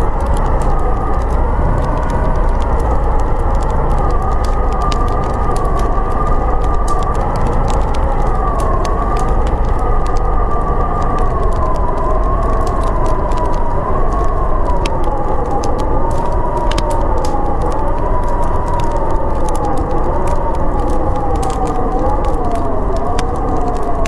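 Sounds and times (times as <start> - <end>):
fire crackling: 0.0 - 24.0
low rumble: 0.0 - 24.0
storm wind howling: 0.0 - 24.0.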